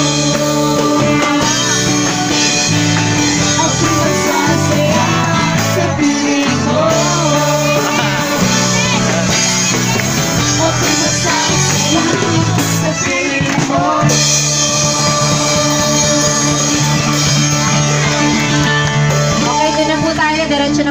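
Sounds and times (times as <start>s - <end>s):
person singing: 0.0s - 20.2s
drum kit with cymbals: 0.0s - 20.9s
live band playing: 0.0s - 20.9s.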